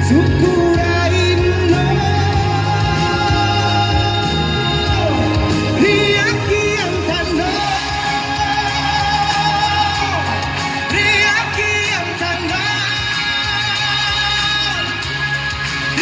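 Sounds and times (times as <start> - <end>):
backing track: 0.0 - 16.0
man singing into a microphone: 0.0 - 16.0.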